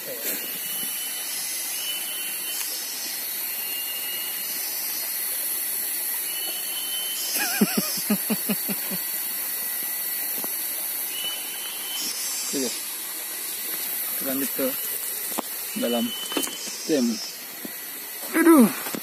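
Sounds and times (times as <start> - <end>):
rushing hiss of outdoor ambience: 0.0 - 19.0.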